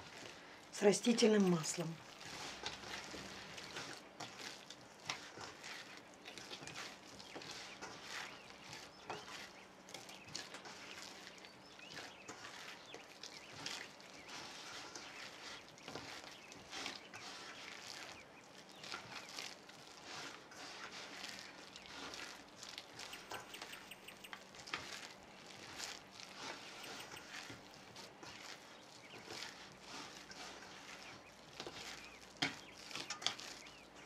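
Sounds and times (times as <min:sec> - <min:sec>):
dough squishing and slapping: 0:00.0 - 0:34.0.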